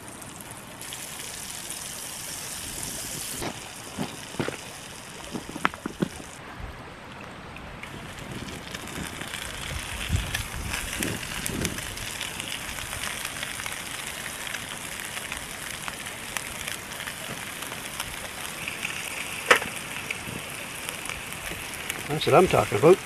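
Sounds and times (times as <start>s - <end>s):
fish sizzling in hot oil: 0.0s - 6.4s, 7.8s - 23.0s.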